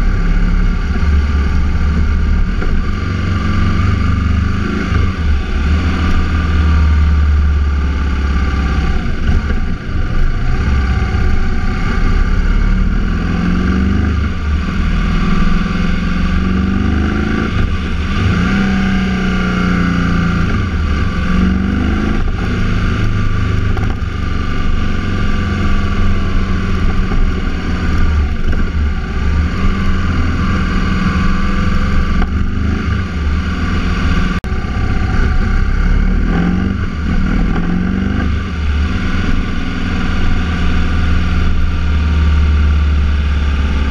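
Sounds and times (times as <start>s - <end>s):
road and wind noise: 0.0s - 43.9s
vehicle engine revving: 0.0s - 43.9s.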